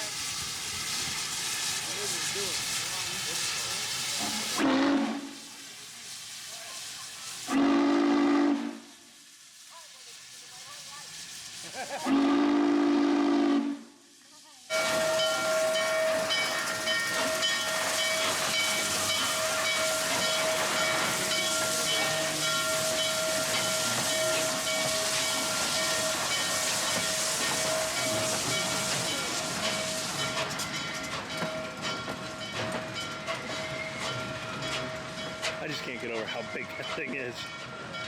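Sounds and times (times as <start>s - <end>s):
steam locomotive venting steam: 0.0s - 38.0s.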